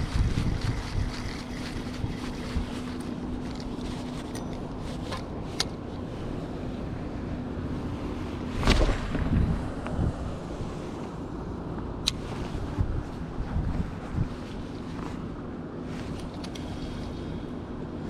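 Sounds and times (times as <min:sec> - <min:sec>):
faint steady hum: 0:00.0 - 0:18.0
wind rumble on microphone: 0:00.0 - 0:18.0.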